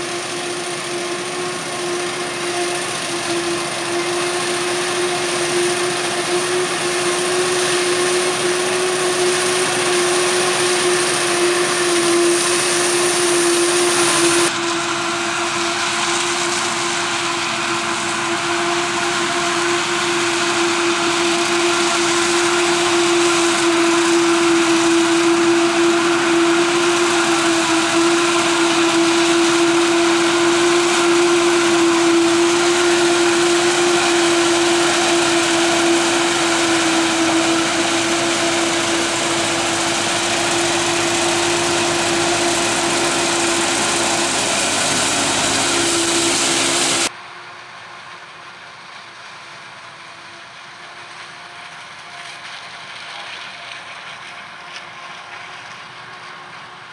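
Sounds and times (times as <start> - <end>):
forage harvester machine drone: 0.0 - 56.9
tractor running: 0.0 - 56.9.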